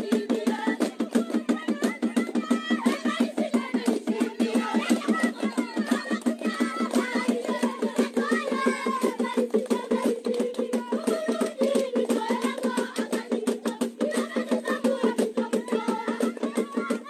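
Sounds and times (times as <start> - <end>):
children chanting and singing: 0.0 - 17.0
fast percussive beat: 0.0 - 17.0.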